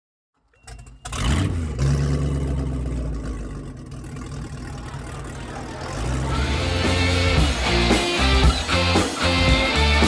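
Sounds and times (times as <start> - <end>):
engine running: 0.6 - 10.0.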